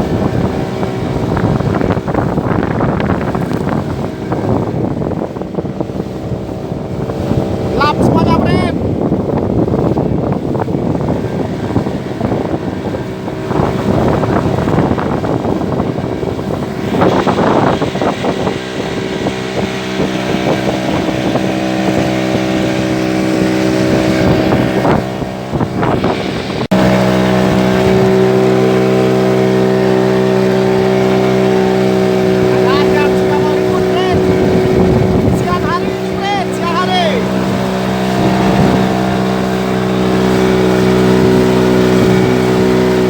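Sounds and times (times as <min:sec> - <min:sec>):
boat motor running: 0:00.0 - 0:43.0
wind and water rushing: 0:00.0 - 0:43.0.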